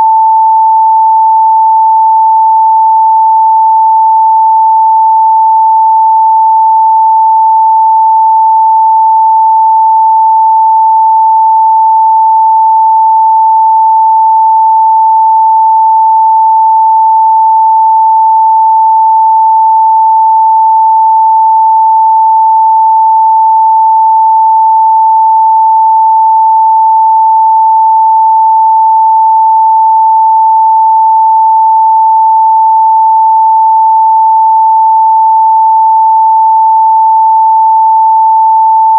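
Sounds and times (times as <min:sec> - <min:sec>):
sine-wave test tone: 0:00.0 - 0:38.9.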